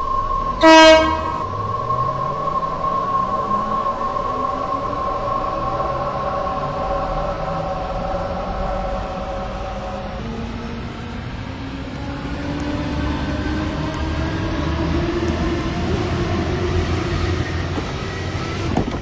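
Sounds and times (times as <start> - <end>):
electric train motor whine: 0.0 - 18.8
train rumble: 0.0 - 19.0.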